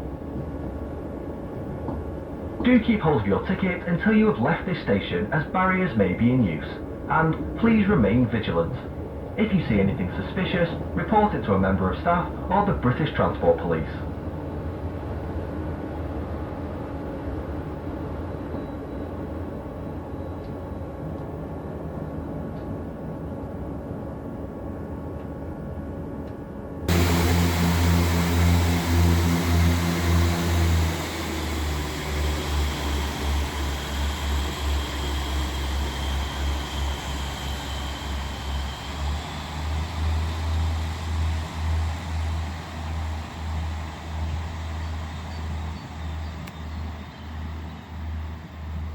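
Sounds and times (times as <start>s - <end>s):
diesel train engine: 0.0s - 22.4s, 26.8s - 48.9s
low throbbing train engine: 0.0s - 48.9s.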